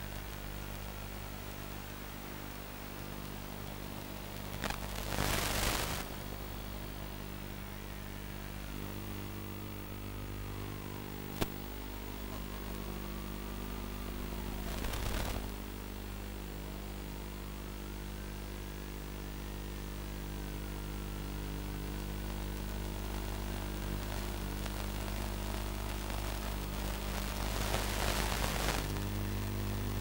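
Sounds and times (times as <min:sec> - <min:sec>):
bursts of static: 0:00.0 - 0:16.8, 0:21.2 - 0:30.0
electrical hum and hiss: 0:00.0 - 0:30.0.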